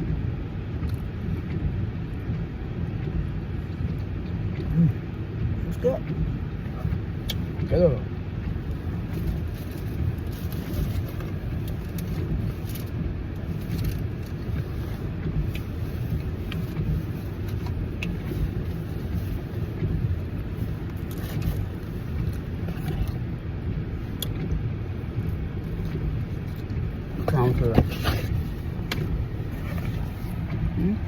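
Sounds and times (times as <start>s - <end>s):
car rumble from inside cabin: 0.0s - 31.0s.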